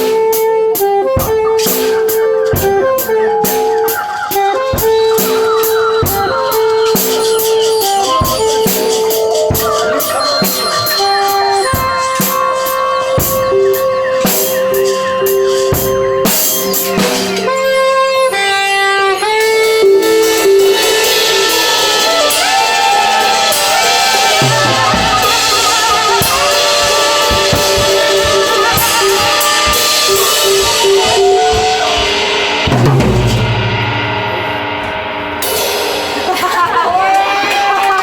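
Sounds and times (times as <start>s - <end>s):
drum kit: 0.0s - 38.0s
guitar: 0.0s - 38.0s
live band playing: 0.0s - 38.0s.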